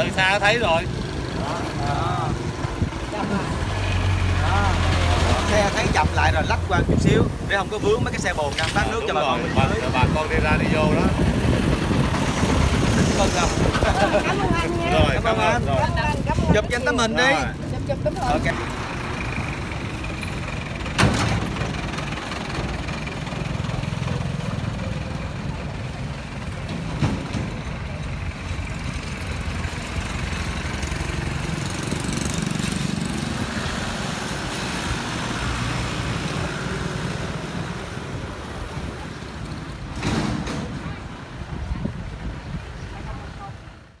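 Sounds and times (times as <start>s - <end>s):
truck engine running: 0.0s - 42.7s
road traffic: 0.0s - 44.0s.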